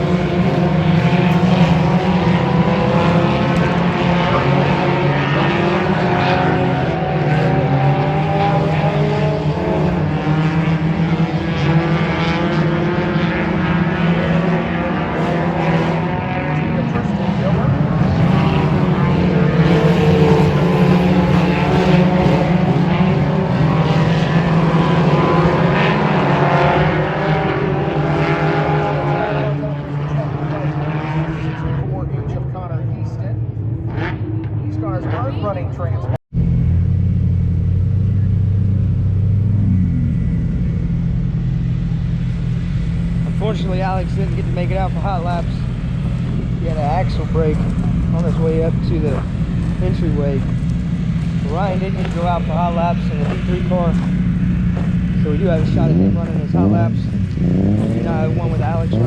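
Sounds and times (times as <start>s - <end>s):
race car engines droning: 0.0s - 59.0s.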